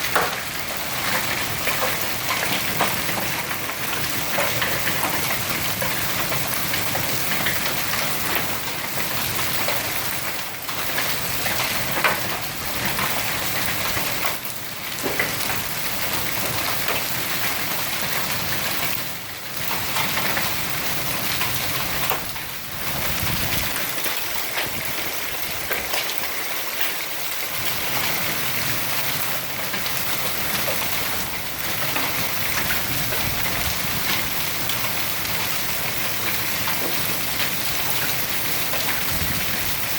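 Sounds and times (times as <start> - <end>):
heavy rain: 0.0 - 39.9
large hail pounding: 0.0 - 39.9.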